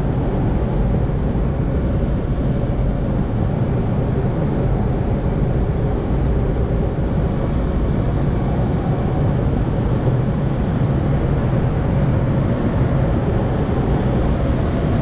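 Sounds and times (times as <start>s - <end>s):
air rushing around glider: 0.0s - 15.0s.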